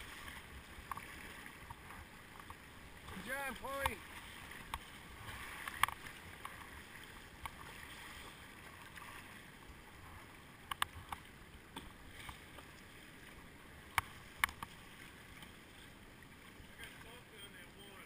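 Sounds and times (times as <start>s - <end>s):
river water rushing: 0.0s - 17.8s.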